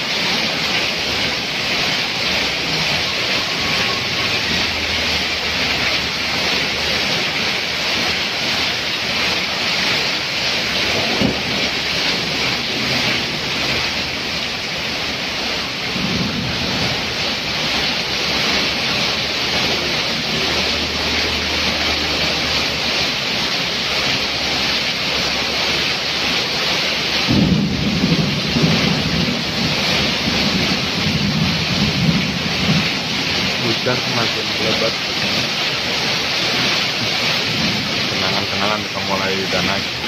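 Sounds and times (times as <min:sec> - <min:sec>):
heavy rain on road: 0:00.0 - 0:40.0
water streaming off roof: 0:00.0 - 0:40.0
thunder rumbling: 0:02.1 - 0:22.2, 0:27.1 - 0:40.0.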